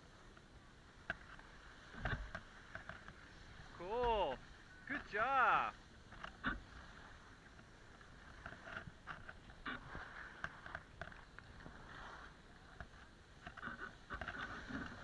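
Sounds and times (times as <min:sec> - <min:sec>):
skis scraping over snow: 0:01.3 - 0:15.0.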